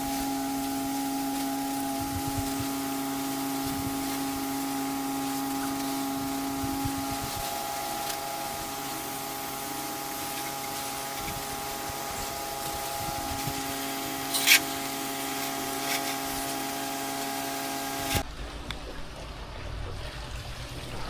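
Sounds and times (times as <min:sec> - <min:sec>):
water spraying hiss: 0:00.0 - 0:18.2
pressure washer running: 0:00.0 - 0:18.3.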